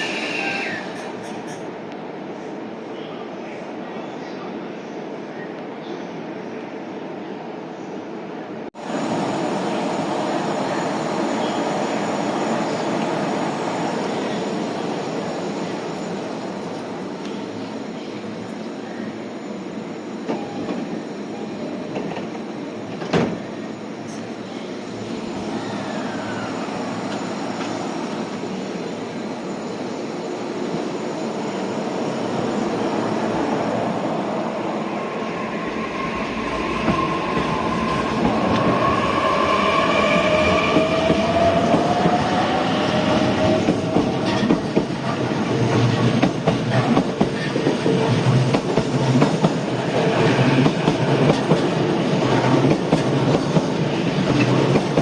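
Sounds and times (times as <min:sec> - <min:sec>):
electric train passing: 0:08.8 - 0:55.0.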